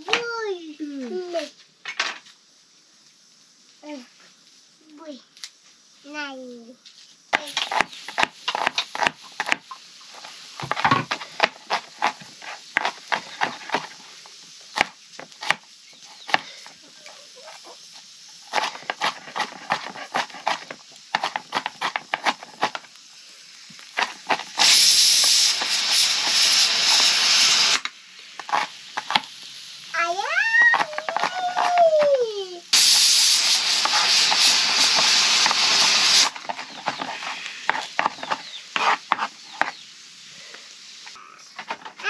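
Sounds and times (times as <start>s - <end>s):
loud hiss: 0.0s - 42.0s.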